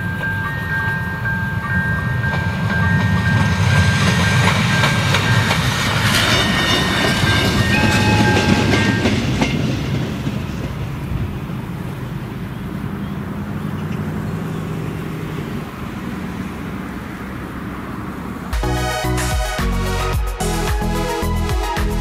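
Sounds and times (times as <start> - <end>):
wheel clatter on rail joints: 0.0 - 17.7
train engine rumble: 0.0 - 22.0.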